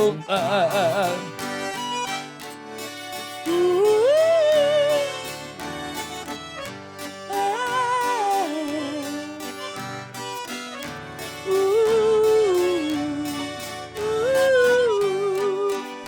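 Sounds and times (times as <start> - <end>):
lead melody with sliding notes: 0.0 - 16.0.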